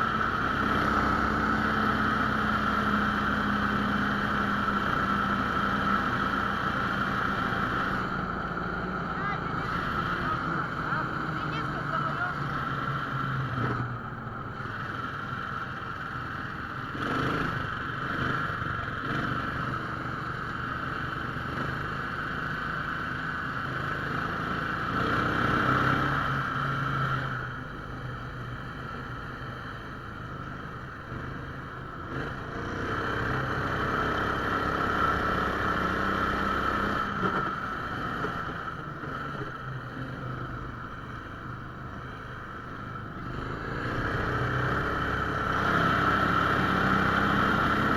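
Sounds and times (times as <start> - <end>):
sled engine running under load: 0.0 - 47.9.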